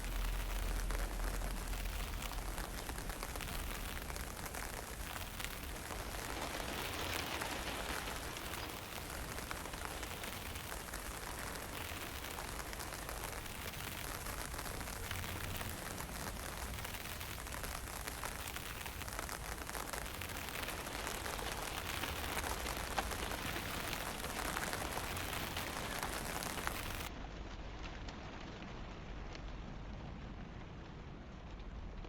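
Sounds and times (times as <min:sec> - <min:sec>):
light rain hissing: 0:00.0 - 0:32.0
rain drops ticking: 0:00.0 - 0:32.0
wind rumble: 0:00.0 - 0:32.0.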